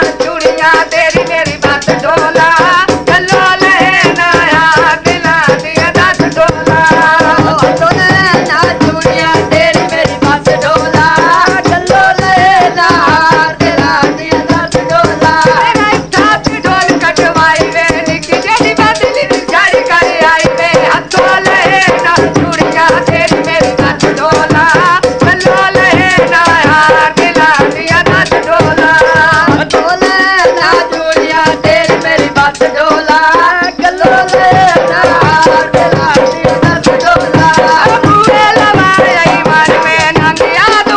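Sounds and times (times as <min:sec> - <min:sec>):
drum beating: 0:00.0 - 0:40.9
person singing: 0:00.0 - 0:40.9.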